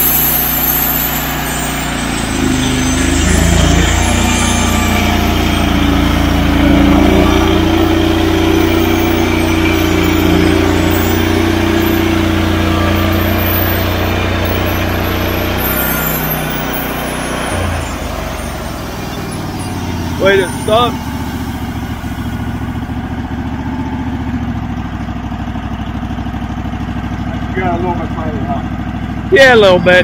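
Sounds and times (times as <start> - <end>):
band sawmill engine droning: 0.0 - 30.0.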